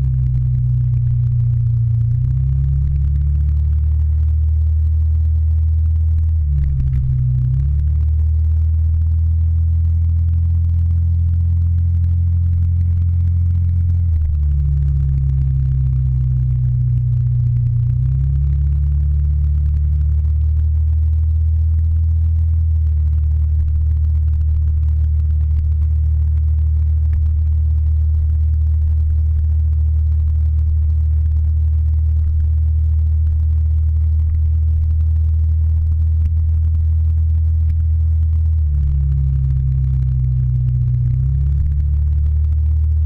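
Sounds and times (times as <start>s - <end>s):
scooter engine drone: 0.0s - 43.0s.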